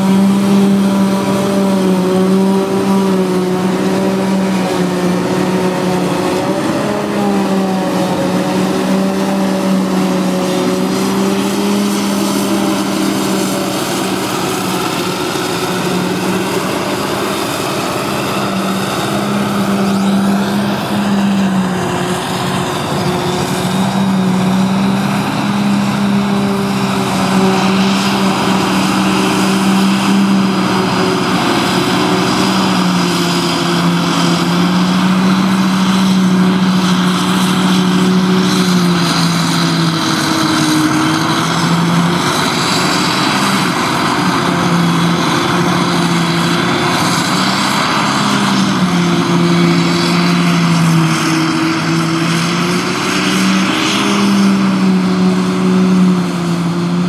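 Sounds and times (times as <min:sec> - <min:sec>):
forage harvester droning: 0:00.0 - 0:57.0.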